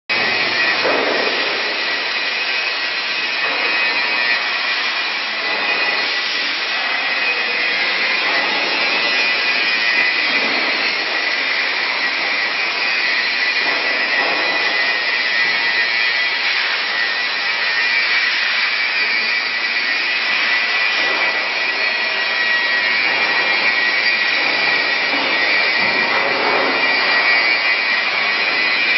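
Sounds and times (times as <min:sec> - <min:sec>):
industrial machine hiss and whine: 0:00.1 - 0:28.9.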